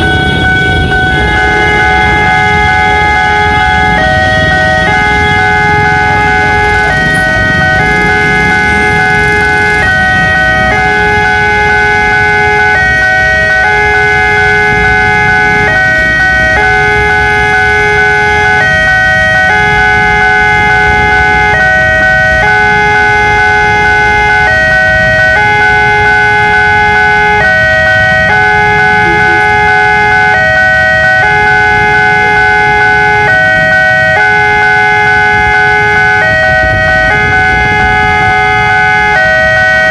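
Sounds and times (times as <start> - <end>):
level crossing warning alarms: 0.0 - 39.9
vehicle engines idling: 0.0 - 39.9.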